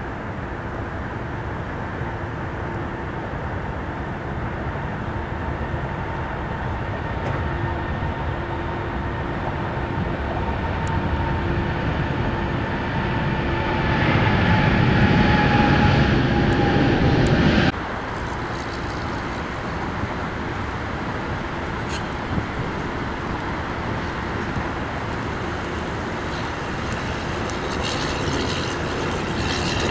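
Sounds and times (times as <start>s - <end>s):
jet engines rumbling with whine: 0.0s - 29.9s.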